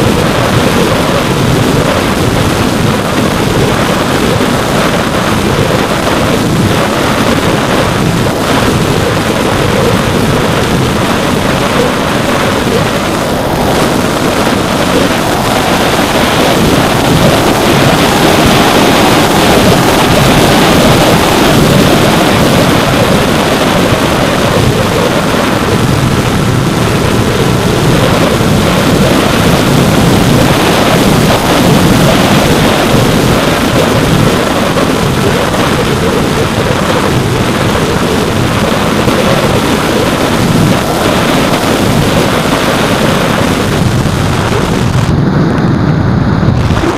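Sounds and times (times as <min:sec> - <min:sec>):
wind and propeller rushing: 0:00.0 - 0:46.9.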